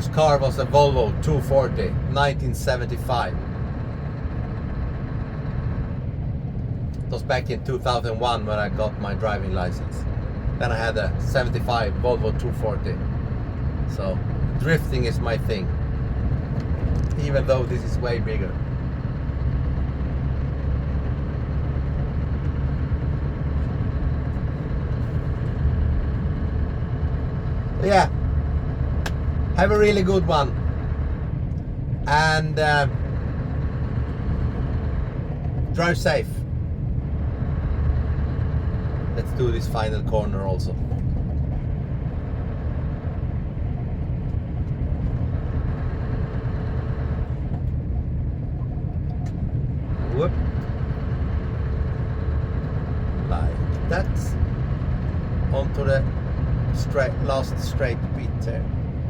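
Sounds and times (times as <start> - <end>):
road noise: 0.0 - 59.0
truck engine rumble: 0.0 - 59.0.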